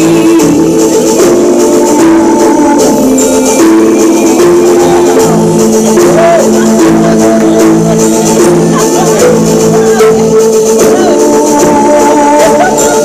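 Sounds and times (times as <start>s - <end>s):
high percussion rhythm: 0.0s - 13.0s
sustained chords: 0.0s - 13.0s.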